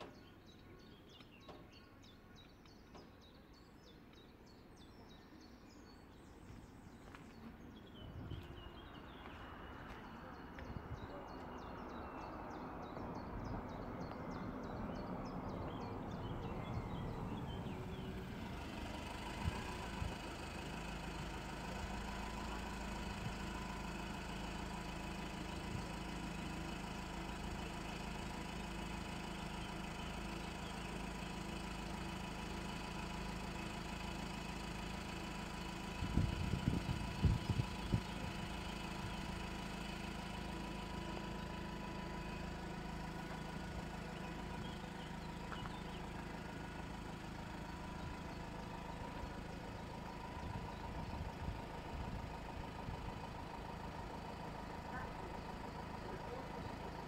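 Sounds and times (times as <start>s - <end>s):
engines idling: 0.0s - 57.0s.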